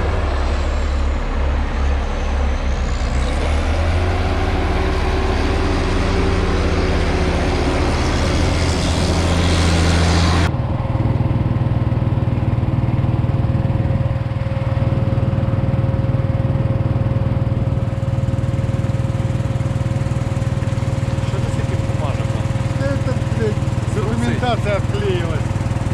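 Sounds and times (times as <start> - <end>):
farm machinery engine running: 0.0 - 25.9
steady whine: 0.0 - 25.9.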